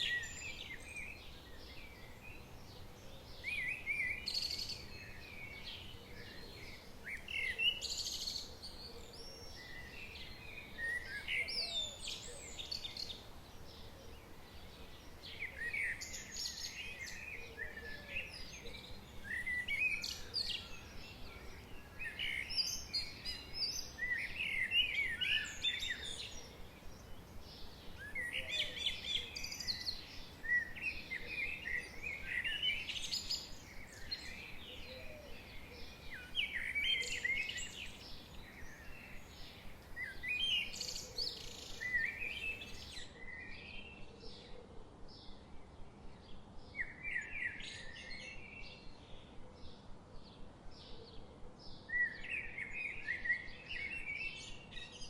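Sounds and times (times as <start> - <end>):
faint background hiss: 0.0 - 55.0
songbirds singing: 0.0 - 55.0.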